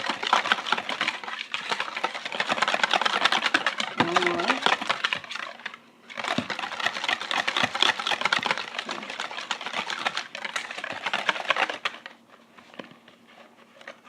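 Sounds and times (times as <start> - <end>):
wire whisk beating in a bowl: 0.0 - 12.0.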